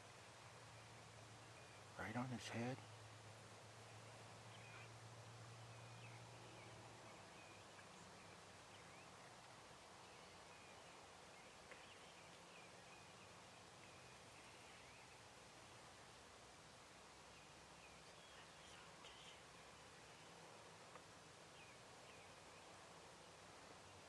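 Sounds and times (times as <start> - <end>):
faint bird chirps: 0.0 - 16.0, 17.0 - 24.0.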